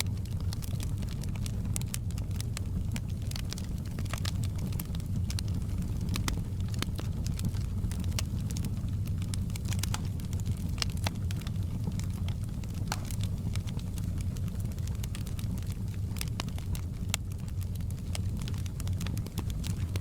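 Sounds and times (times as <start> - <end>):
fireplace fire crackling: 0.0 - 20.0
low rumble of flames: 0.0 - 20.0
sharp pops of fire: 0.0 - 20.0.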